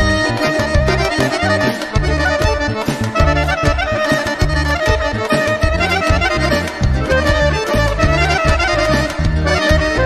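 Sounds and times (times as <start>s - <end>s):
accordion: 0.0s - 10.0s
clarinet: 0.0s - 10.0s
folk dance band: 0.0s - 10.0s
repeating bass beat: 0.0s - 10.0s.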